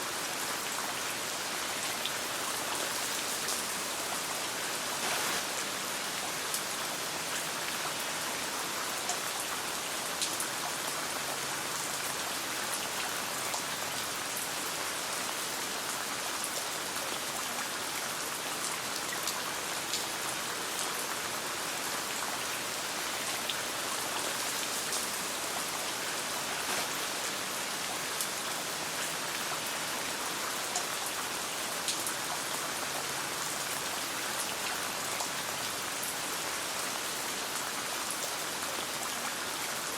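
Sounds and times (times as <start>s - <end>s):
rain pattering on a tent: 0.0s - 39.9s
sharp ticks of raindrops: 0.7s - 17.7s, 22.2s - 39.1s.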